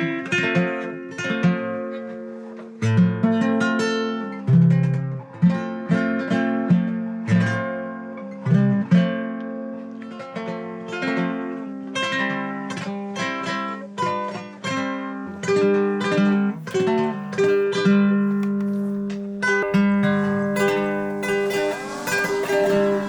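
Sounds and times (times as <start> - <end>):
acoustic guitar picked melody: 0.0 - 23.0.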